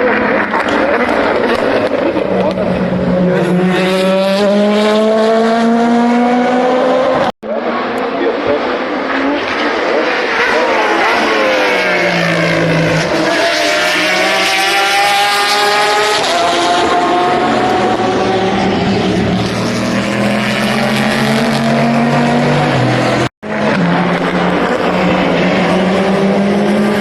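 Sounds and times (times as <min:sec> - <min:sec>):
racing car engines passing: 0:00.0 - 0:27.0.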